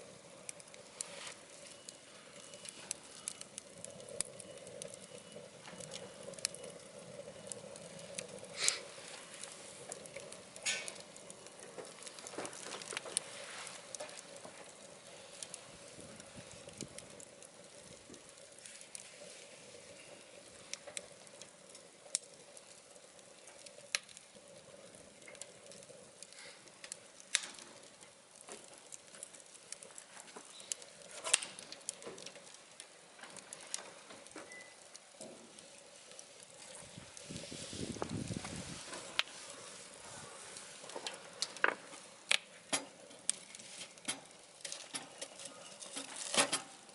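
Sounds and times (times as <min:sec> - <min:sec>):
wood fire crackling in stove: 0:00.0 - 0:46.9.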